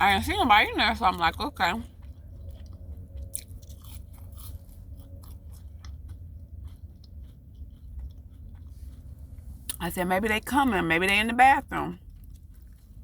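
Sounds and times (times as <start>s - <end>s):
steady low hum: 0.0s - 13.0s
person chewing food: 0.1s - 9.8s, 11.9s - 13.0s.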